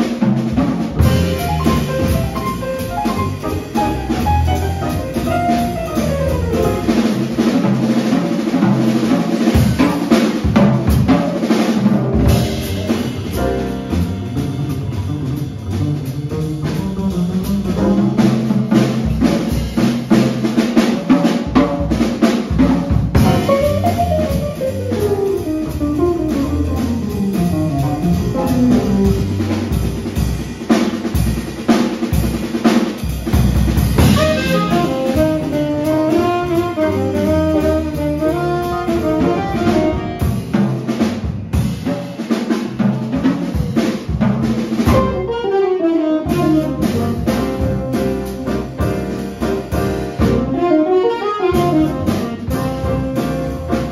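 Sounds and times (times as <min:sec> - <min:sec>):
bass line: 0:00.0 - 0:53.9
drum kit snare and bass drum: 0:00.0 - 0:53.9
jazz combo playing live: 0:00.0 - 0:53.9.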